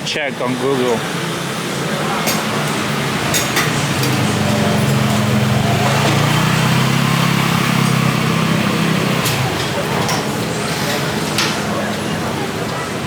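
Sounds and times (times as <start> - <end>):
street traffic: 0.0 - 13.0
vehicle engine running: 0.6 - 13.0.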